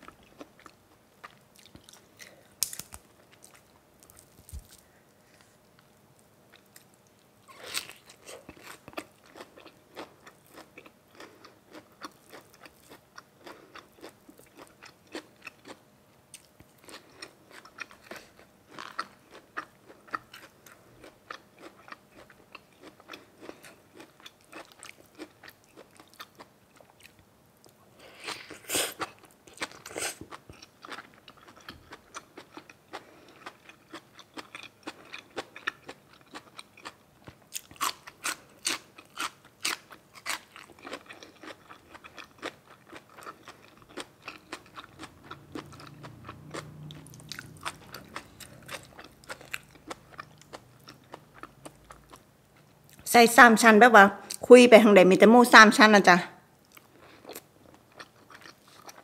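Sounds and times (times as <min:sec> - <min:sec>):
person chewing crunchy food: 0:00.0 - 0:05.8, 0:06.5 - 0:53.0, 0:56.6 - 0:59.0.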